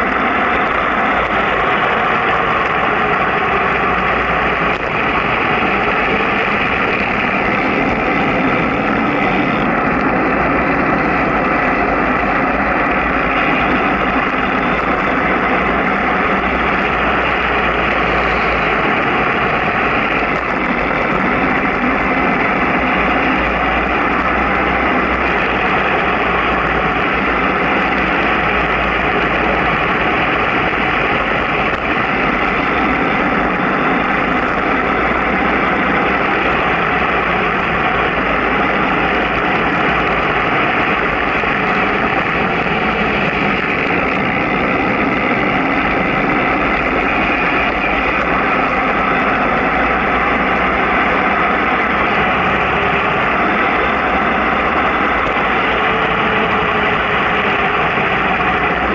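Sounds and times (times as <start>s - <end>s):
vehicle road noise: 0.0s - 58.9s
wind rush on microphone: 0.0s - 58.9s.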